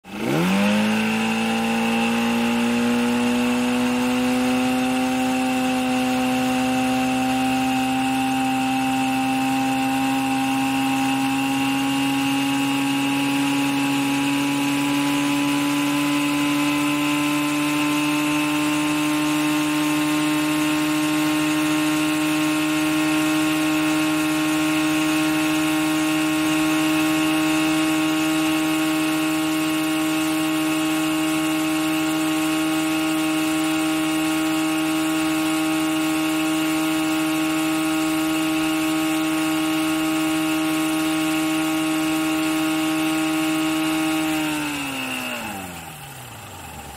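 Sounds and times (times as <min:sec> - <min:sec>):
boat engine running at high revs: 0:00.0 - 0:46.9.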